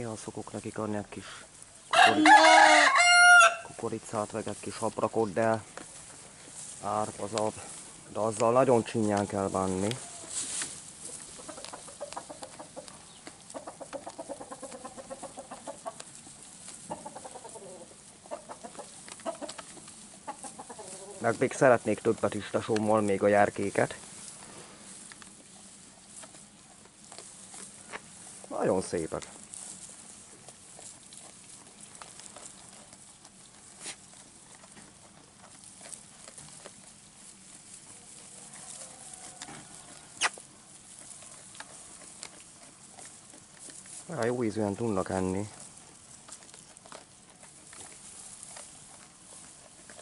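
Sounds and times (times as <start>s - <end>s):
hay crackle: 0.0s - 50.0s
sheep chewing hay: 0.0s - 50.0s.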